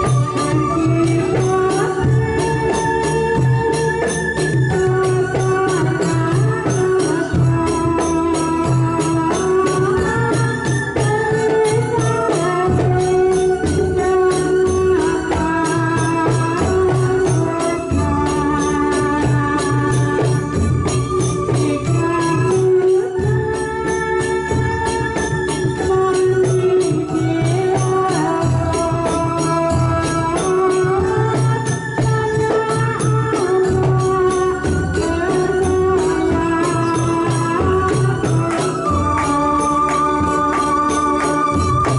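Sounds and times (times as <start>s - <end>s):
hand drums beat: 0.0s - 41.9s
jingling tambourine: 0.0s - 41.9s
woman singing through a microphone: 0.0s - 41.9s.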